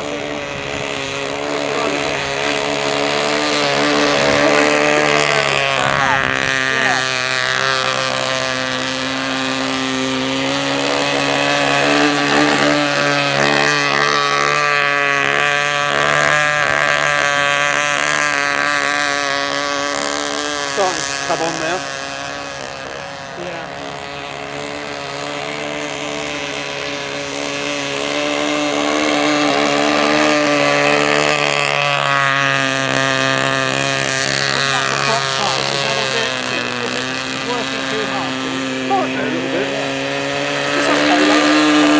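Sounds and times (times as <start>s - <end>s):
model boat engine buzzing: 0.0s - 41.9s.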